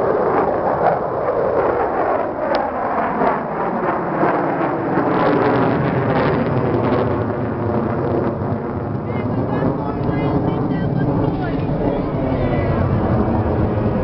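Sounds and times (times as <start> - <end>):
aircraft engines roaring overhead: 0.0 - 14.0.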